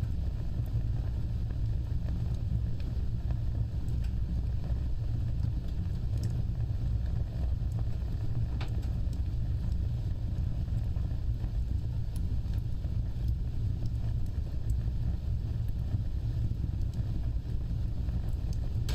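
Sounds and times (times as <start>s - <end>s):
fire crackling: 0.0s - 18.9s
fire roaring: 0.0s - 18.9s.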